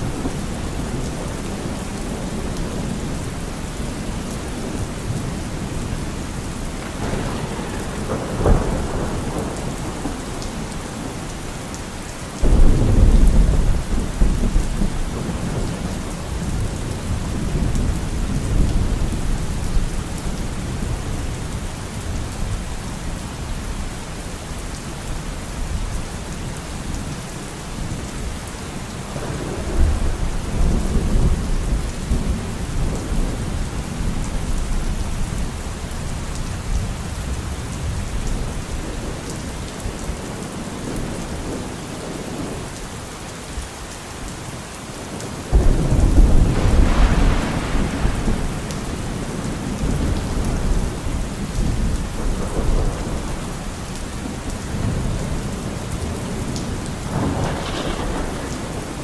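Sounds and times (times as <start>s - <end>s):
thunder rumbling: 0.0s - 23.2s, 29.0s - 42.6s, 45.5s - 59.0s
heavy rainfall: 0.0s - 59.0s.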